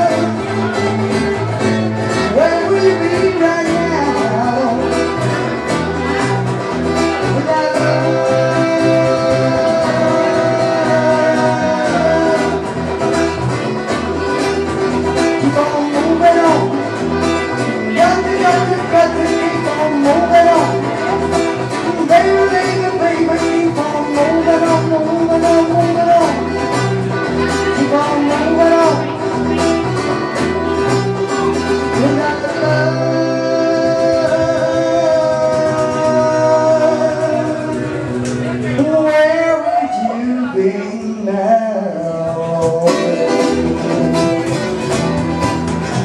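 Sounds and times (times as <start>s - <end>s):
acoustic guitar: 0.0s - 46.0s
bass: 0.0s - 46.0s
electric lead guitar: 0.0s - 46.0s.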